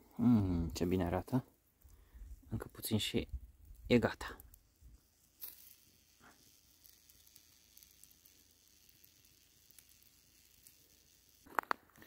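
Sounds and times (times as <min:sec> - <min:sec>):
campfire sizzling and crackling: 0:00.0 - 0:12.0.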